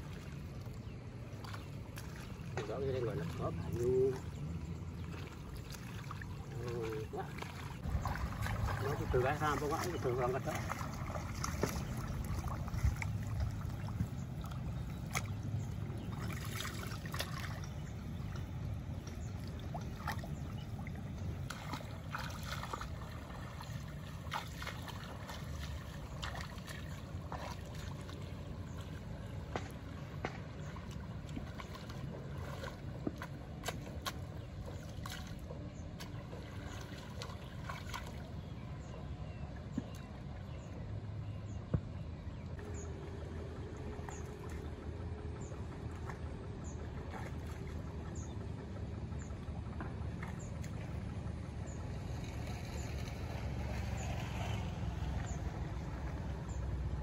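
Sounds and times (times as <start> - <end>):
low rumble: 0.0 - 57.0
water sloshing and splashing: 0.0 - 57.0.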